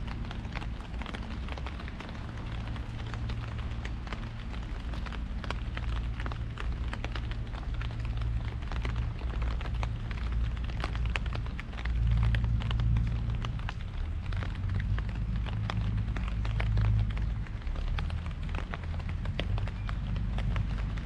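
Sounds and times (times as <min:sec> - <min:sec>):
low rumble: 0:00.0 - 0:21.0
raindrops tapping on an umbrella: 0:00.0 - 0:21.0.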